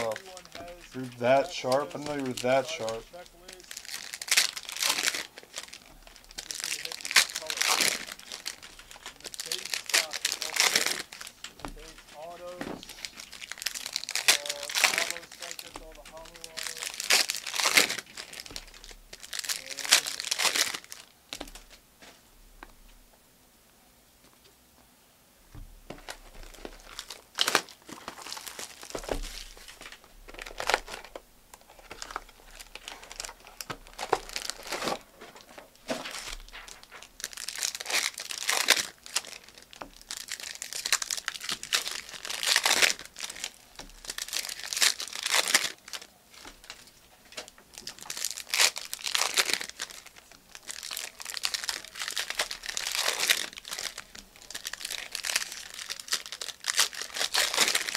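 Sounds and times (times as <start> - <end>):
plastic wrappers tearing and crinkling: 0.0 - 21.8, 25.9 - 57.9.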